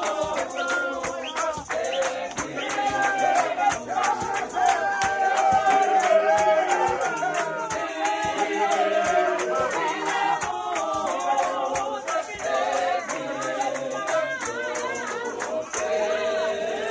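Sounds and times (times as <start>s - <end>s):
congregation singing in harmony: 0.0s - 16.9s
hand-clapping on the beat: 0.0s - 16.9s.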